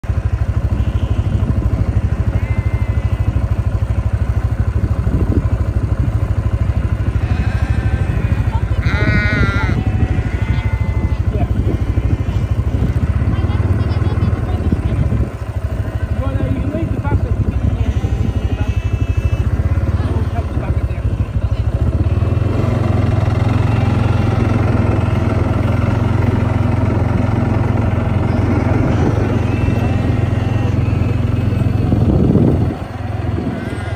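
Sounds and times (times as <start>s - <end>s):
engine idling: 0.0s - 33.9s
sheep bleating: 0.6s - 3.6s, 7.0s - 14.3s, 15.8s - 33.9s.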